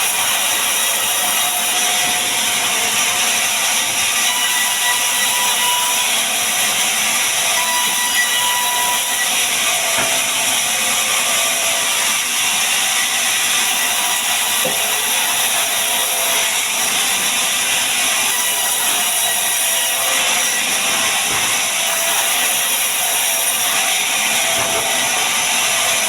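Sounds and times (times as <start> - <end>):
power tool working wood: 0.0 - 26.0.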